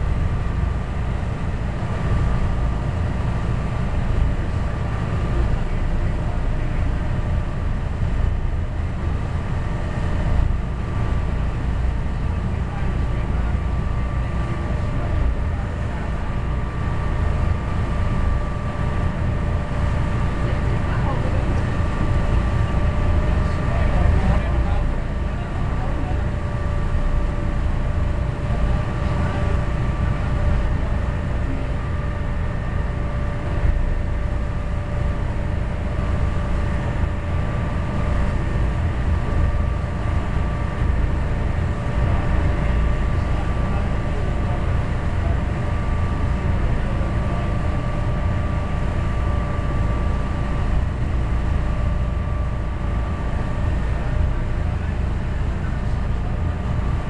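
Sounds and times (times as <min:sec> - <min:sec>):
boat engine rumbling: 0:00.0 - 0:57.0
faint steady whine: 0:00.0 - 0:57.0.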